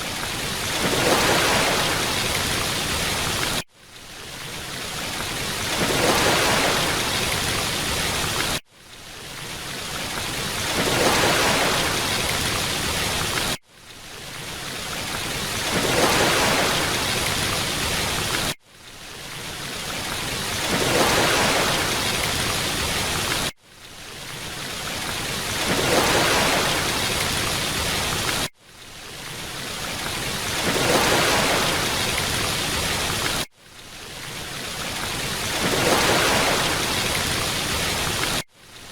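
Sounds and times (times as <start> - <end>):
falling water rushing: 0.0 - 38.9.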